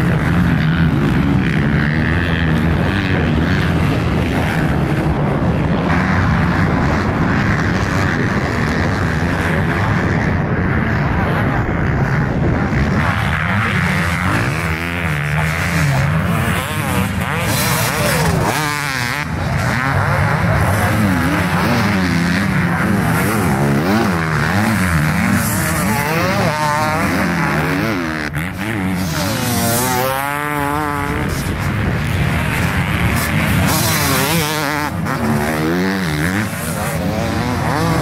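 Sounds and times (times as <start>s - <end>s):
motocross bikes revving: 0.0s - 38.0s.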